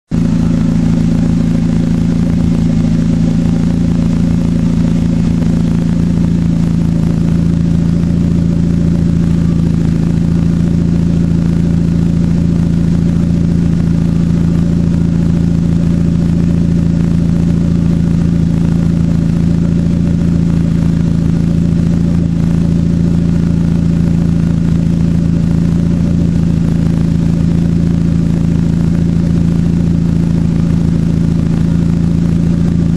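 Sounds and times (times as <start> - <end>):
car engine running steadily: 0.0 - 32.9.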